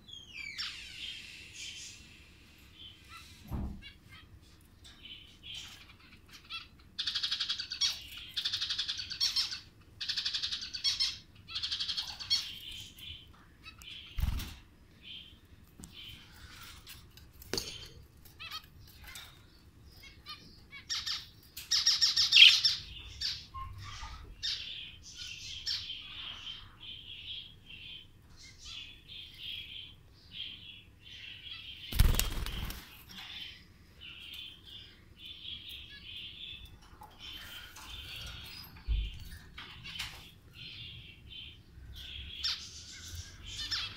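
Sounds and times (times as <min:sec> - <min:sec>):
cage birds chirping: 0:00.0 - 0:43.9.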